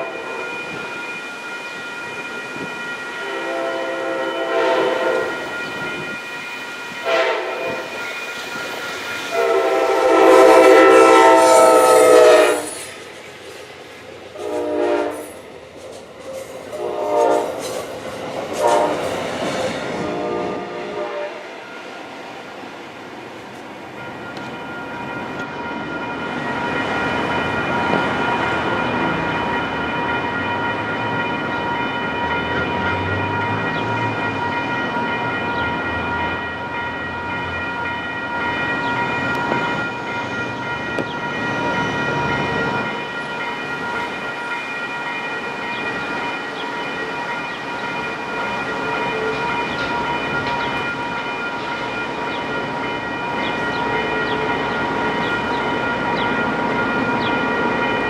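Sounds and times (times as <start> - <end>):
railroad crossing bells ringing: 0.0 - 58.0
train engine and wheels rumbling: 0.0 - 58.0.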